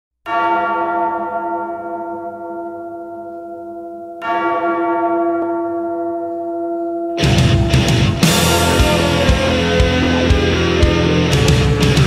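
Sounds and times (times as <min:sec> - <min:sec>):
large bell tolling: 0:00.3 - 0:12.0.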